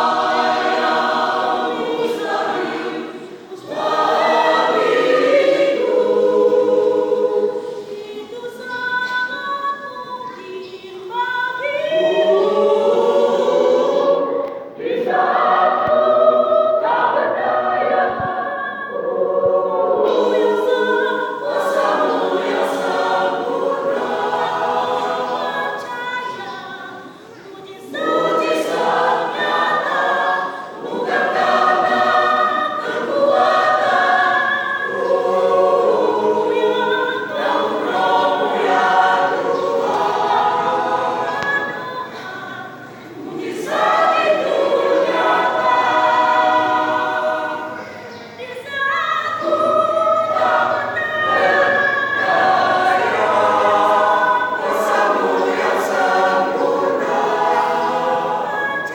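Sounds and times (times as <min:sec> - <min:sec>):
church choir singing: 0:00.0 - 0:58.9.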